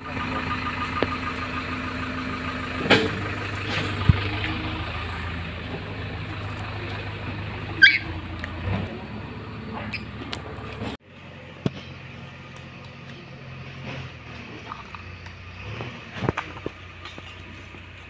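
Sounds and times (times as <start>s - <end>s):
low machinery engine hum: 0.0s - 18.0s.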